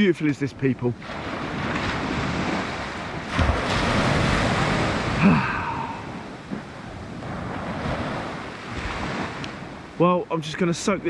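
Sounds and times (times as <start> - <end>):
wind buffeting microphone: 0.0 - 10.0
waves breaking on beach: 0.0 - 11.0.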